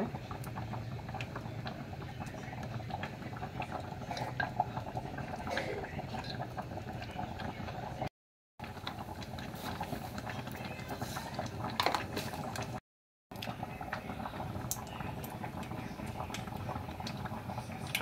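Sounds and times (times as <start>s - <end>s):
oil ticking and crackling: 0.0s - 18.0s.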